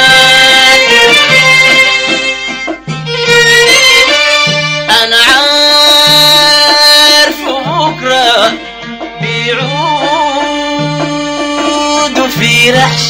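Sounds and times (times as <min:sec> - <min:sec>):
bowed strings melody: 0:00.0 - 0:13.0.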